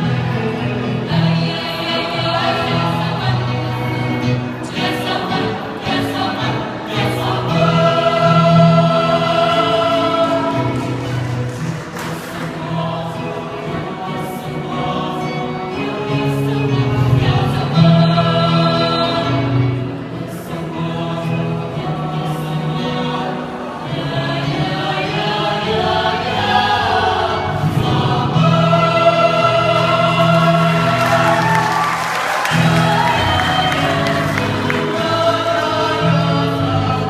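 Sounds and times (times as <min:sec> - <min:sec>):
choir singing in harmony: 0:00.0 - 0:37.0.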